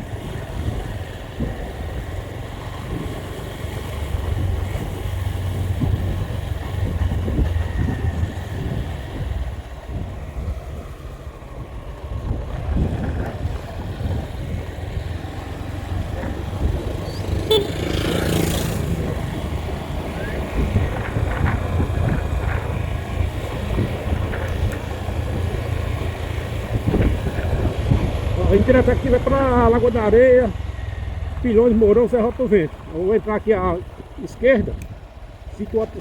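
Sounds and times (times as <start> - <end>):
wind buffeting microphone: 0.0 - 29.8
vehicle rumble on road: 0.0 - 36.0.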